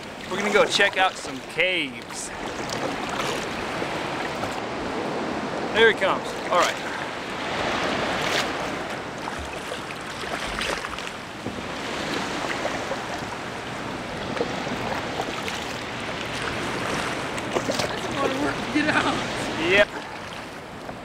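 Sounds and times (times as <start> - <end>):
surf washing: 0.0 - 21.0
water splashing around kayak: 0.0 - 21.0.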